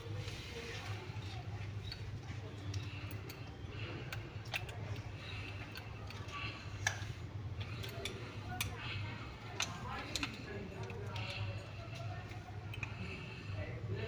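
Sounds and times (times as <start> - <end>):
steady low hum: 0.0 - 14.0
wires and connectors clicking: 1.2 - 13.2.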